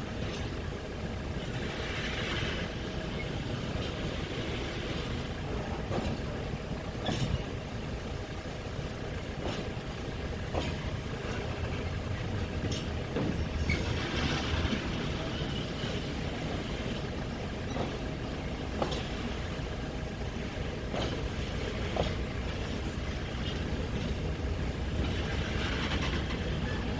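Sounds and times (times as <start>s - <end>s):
train rumbling slowly: 0.0s - 26.9s.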